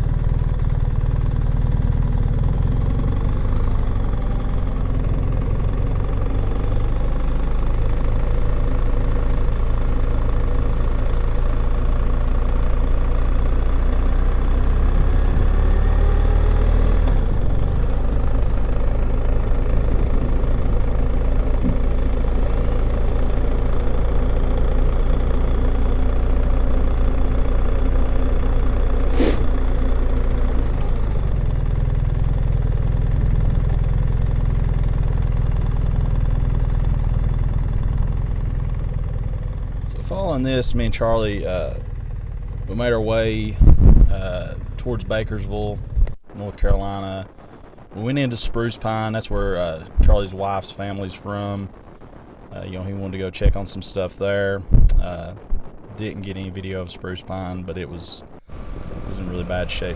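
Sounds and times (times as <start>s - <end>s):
vehicle engine and road noise: 0.0s - 46.4s, 54.7s - 59.9s.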